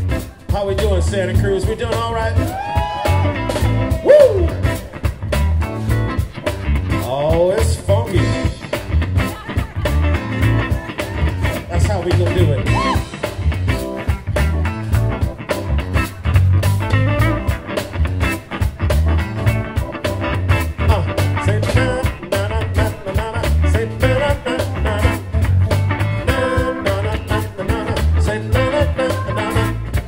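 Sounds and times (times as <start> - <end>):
bass line: 0.0 - 30.0
drum kit beat: 0.0 - 30.0
keyboard: 0.0 - 30.0
live band playing: 0.0 - 30.0.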